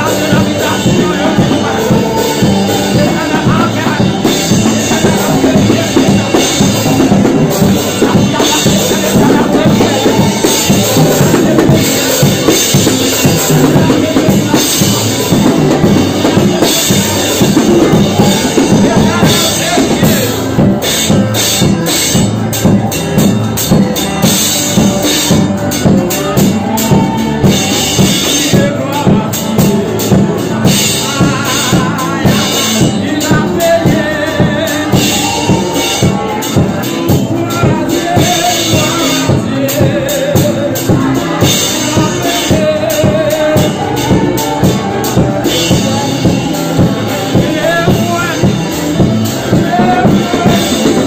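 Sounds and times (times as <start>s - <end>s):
drum kit beat: 0.0s - 51.0s
guitar: 0.0s - 51.0s.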